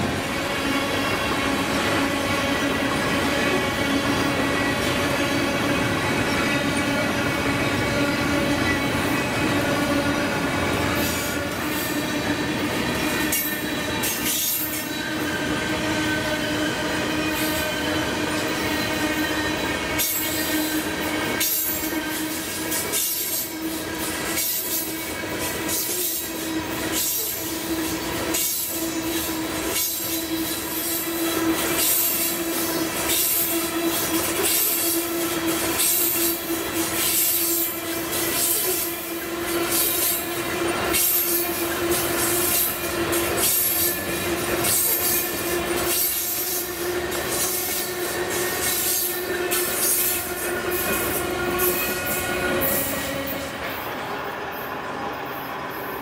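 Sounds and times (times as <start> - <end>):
freight train cars rolling: 0.0 - 56.0
wheels squealing on rails: 0.0 - 56.0.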